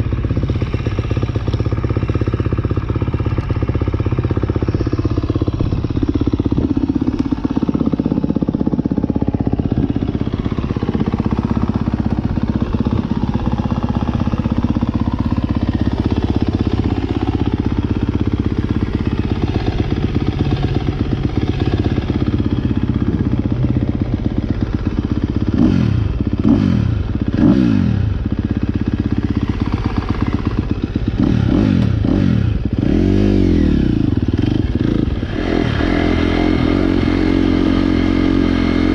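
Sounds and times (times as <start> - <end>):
motocross bike engine revving: 2.9 - 38.9.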